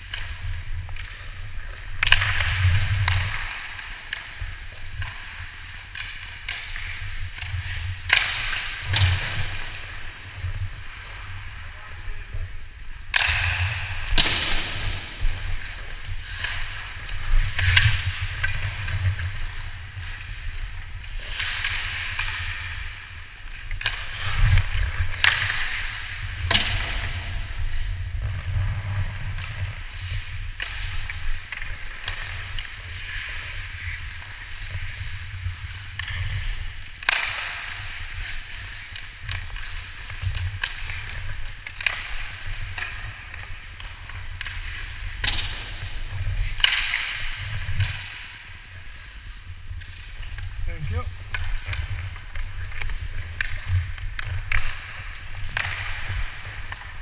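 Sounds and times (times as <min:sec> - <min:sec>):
hockey sticks and puck clacking: 0:00.0 - 0:57.0
skates scraping on ice: 0:00.0 - 0:57.0.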